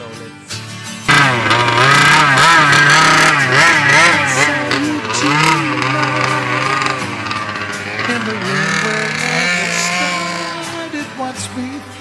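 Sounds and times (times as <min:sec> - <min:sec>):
small two-stroke engine revving: 0:01.1 - 0:12.0.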